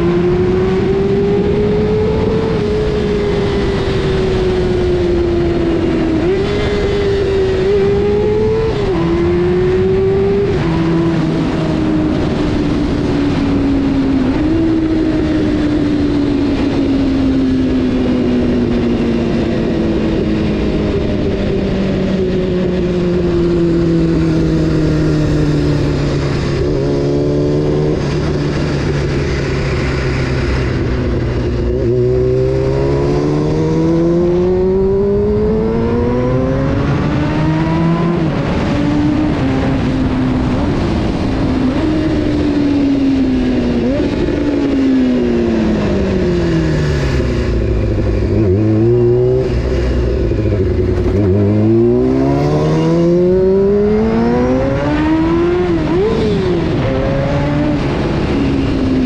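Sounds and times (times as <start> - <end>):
motorcycle engine revving: 0.0 - 59.0
road noise: 0.0 - 59.0
wind noise: 0.0 - 59.0.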